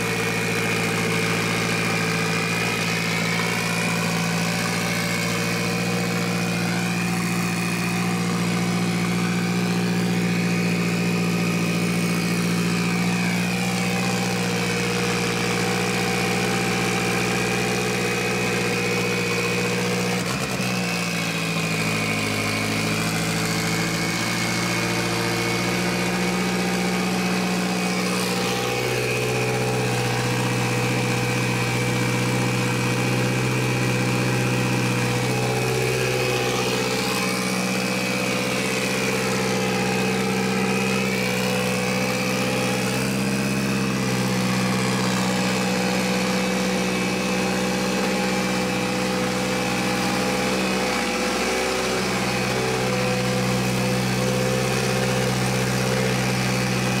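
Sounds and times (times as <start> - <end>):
car engine at high idle: 0.0 - 57.0.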